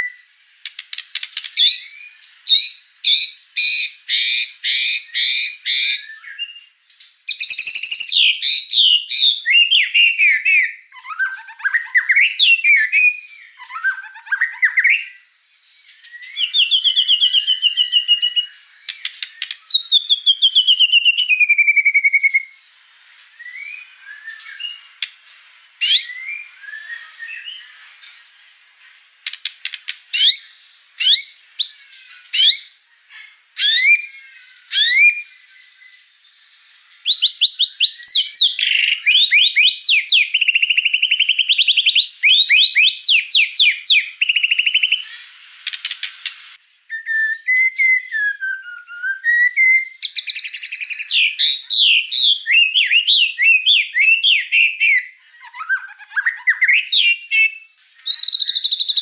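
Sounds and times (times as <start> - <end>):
bird singing whistles and trills: 0.0 - 25.1, 25.8 - 59.0.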